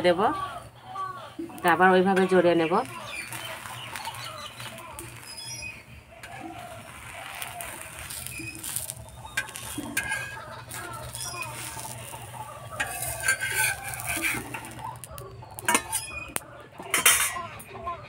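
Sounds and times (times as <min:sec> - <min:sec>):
birds calling: 0:00.0 - 0:18.0
spatula scraping on griddle: 0:01.4 - 0:18.0.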